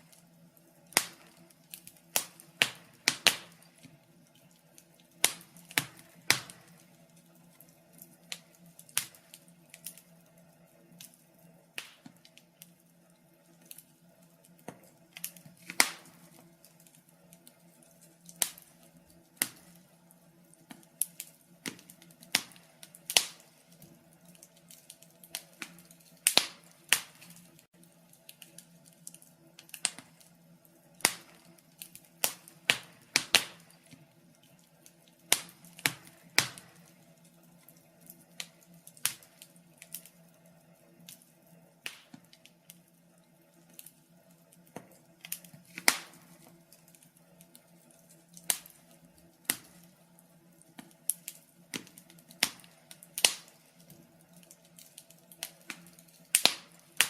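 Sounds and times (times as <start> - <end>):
fire crackling: 0.0 - 57.0.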